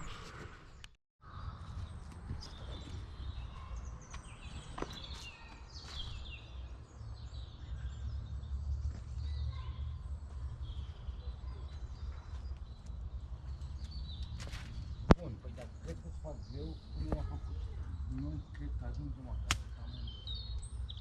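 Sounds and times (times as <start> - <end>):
birds chirping and calling: 0.0 - 21.0.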